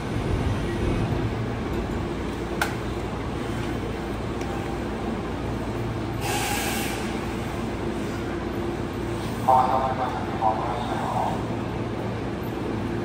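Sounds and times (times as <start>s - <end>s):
train low rumble and hum: 0.0s - 13.0s.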